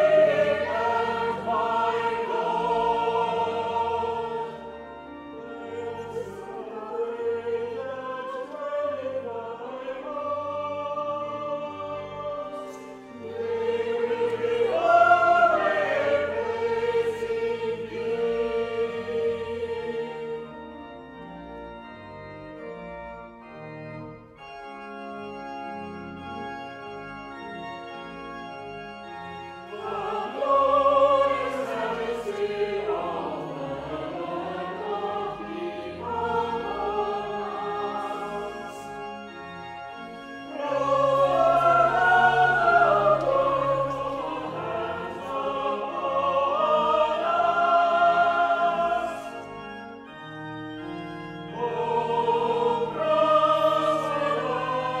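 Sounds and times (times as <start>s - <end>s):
choir singing: 0.0s - 22.6s, 29.1s - 55.0s
organ playing sustained chords: 0.0s - 55.0s.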